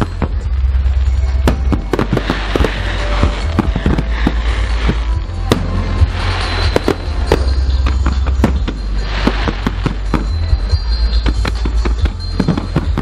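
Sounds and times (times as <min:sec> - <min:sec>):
fireworks bangs: 0:00.0 - 0:13.0
fireworks crackling: 0:00.0 - 0:13.0
heavy low rumble: 0:00.0 - 0:13.0.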